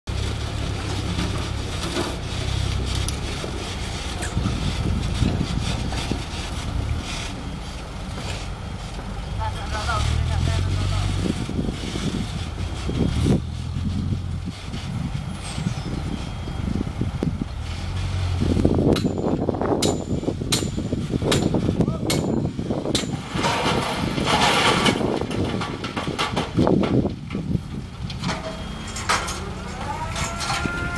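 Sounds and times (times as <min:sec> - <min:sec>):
diesel truck engine running: 0:00.1 - 0:30.9.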